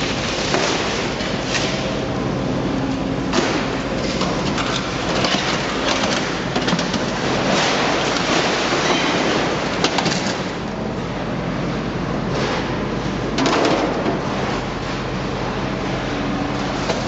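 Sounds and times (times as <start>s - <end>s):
heavy machinery noise: 0.0s - 17.0s.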